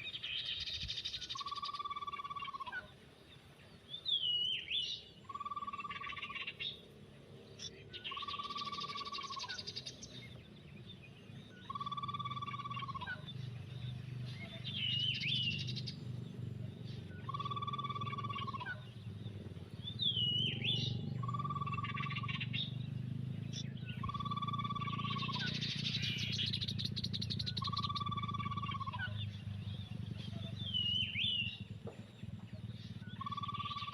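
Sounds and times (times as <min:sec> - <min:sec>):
bird chirps and buzzy calls: 0:00.0 - 0:33.9.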